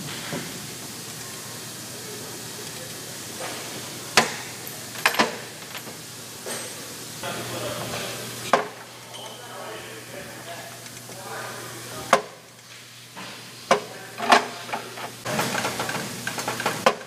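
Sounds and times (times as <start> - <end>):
steady hiss and low hum: 0.0 - 17.0.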